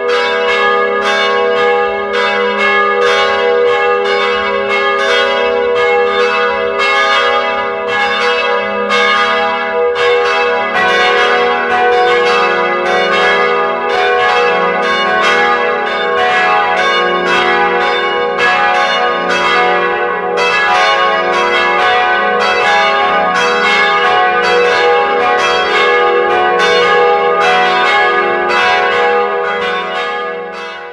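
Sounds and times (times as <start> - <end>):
church bells ringing: 0.0 - 30.9.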